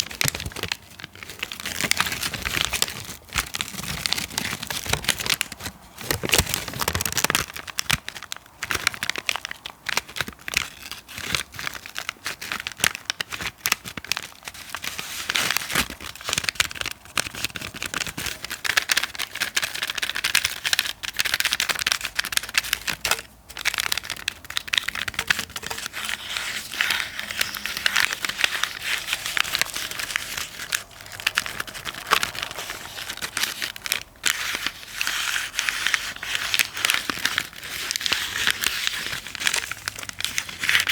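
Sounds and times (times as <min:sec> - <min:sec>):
crinkling and scratching: 0:00.0 - 0:40.9.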